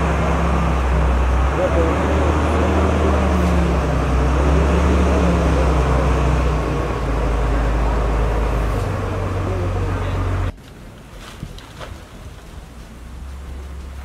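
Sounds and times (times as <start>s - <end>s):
engine rumbling: 0.0s - 14.0s.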